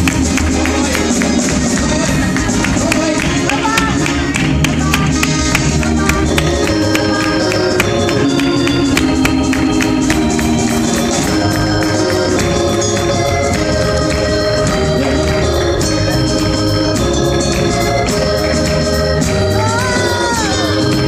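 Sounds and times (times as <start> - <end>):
drums and bass: 0.0 - 21.0
organ-like keyboard chords: 0.0 - 21.0.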